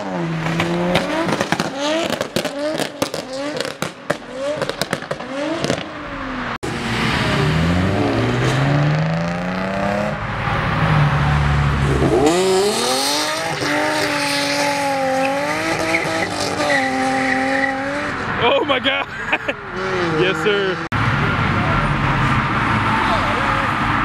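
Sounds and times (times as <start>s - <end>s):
car engine revving: 0.0s - 18.4s, 19.4s - 24.0s
tires squealing: 0.0s - 24.0s.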